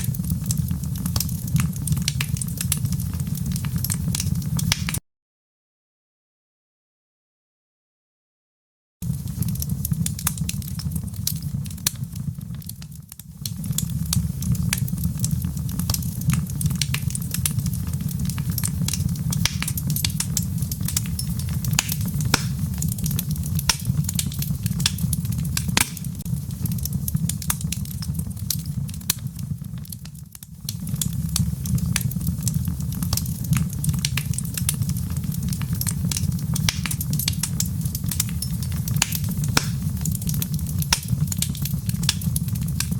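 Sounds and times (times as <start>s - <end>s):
fireplace fire crackling: 0.0s - 5.0s, 9.0s - 42.9s.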